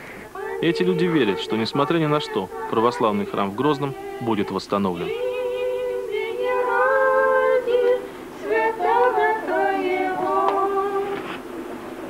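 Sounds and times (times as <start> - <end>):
women singing a chant: 0.3 - 11.4.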